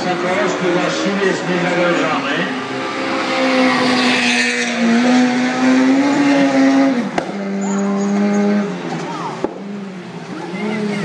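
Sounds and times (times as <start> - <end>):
rally cars racing at high revs: 0.0 - 11.0.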